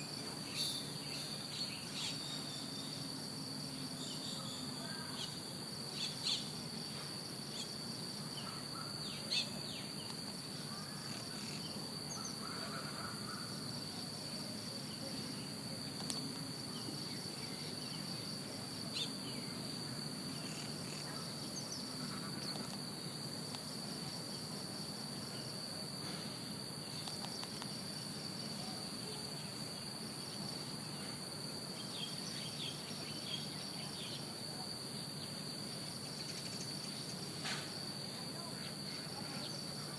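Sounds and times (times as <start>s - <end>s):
insect chirps and ticks: 0.0s - 39.9s
insect chorus trilling: 0.0s - 39.9s.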